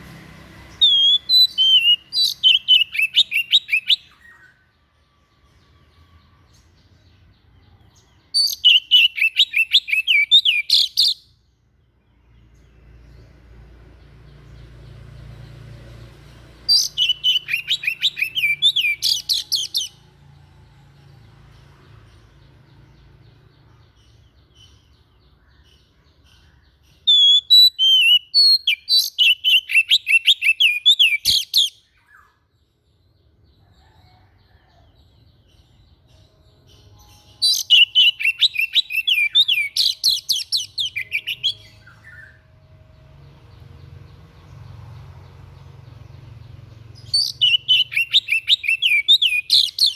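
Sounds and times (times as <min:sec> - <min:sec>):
songbird rapid chirps: 0:00.0 - 0:49.9.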